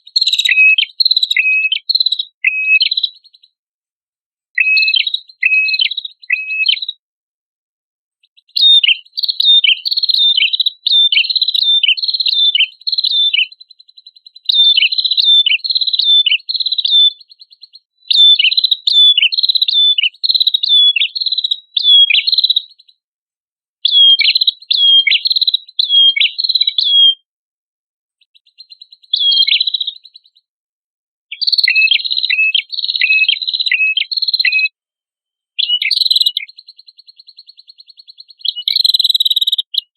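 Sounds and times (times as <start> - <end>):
bird chirping sharply: 0.1 - 3.5, 4.6 - 7.0, 8.3 - 23.0, 23.8 - 27.2, 28.2 - 30.5, 31.3 - 34.7, 35.6 - 39.9.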